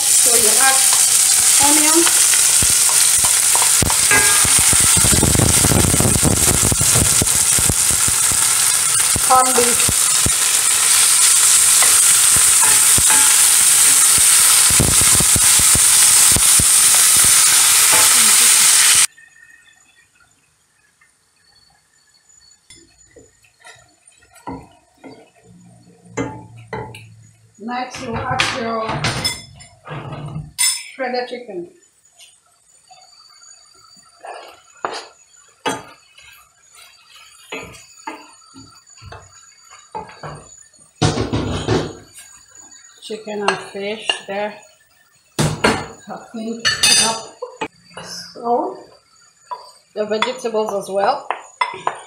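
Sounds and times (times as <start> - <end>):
meat frying in a pan: 0.0 - 29.8, 30.6 - 52.0
onions sizzling in oil: 0.0 - 52.0.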